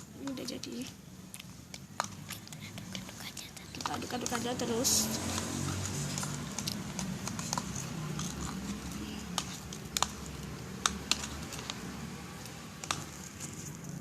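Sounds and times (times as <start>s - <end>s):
slime squelching when stirred: 0.0s - 14.0s.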